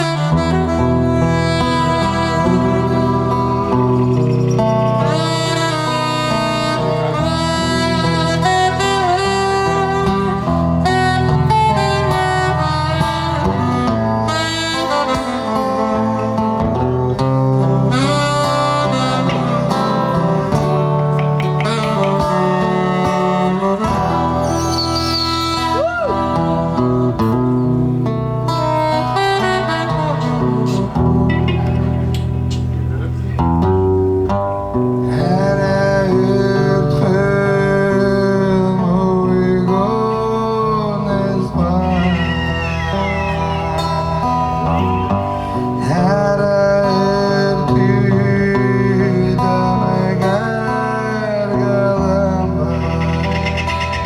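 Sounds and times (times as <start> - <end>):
live band music: 0.0 - 35.1, 41.0 - 46.6, 50.9 - 54.0
plucked string notes: 0.0 - 54.0
steady held bass: 0.0 - 54.0
sustained melody notes: 0.0 - 54.0.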